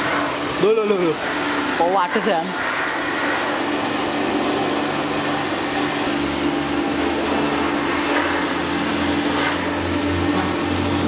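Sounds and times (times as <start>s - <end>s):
machine noise with a hiss: 0.0s - 11.0s.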